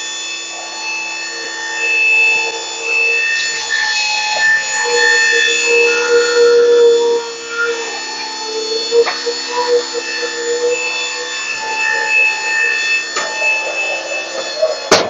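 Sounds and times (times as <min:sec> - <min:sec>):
loader motor whining: 0:00.0 - 0:15.0
metal rubbing and grinding: 0:00.5 - 0:15.0.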